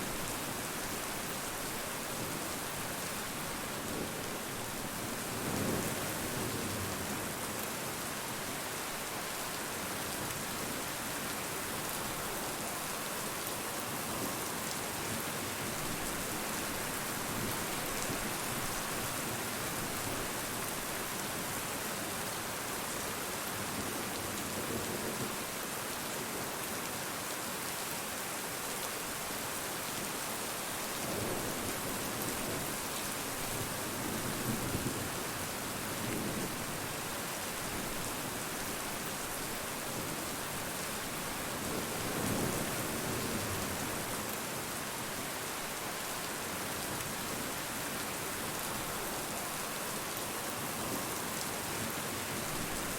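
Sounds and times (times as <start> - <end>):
rain pattering on a surface: 0.0 - 52.9.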